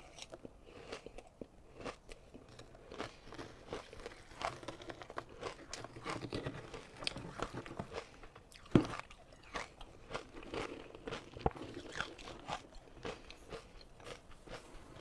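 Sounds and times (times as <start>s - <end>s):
ice being crunched and chewed: 0.0s - 15.0s.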